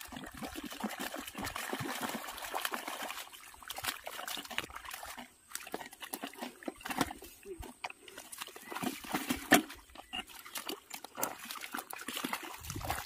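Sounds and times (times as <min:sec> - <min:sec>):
boots squelching through mud: 0:00.0 - 0:13.0.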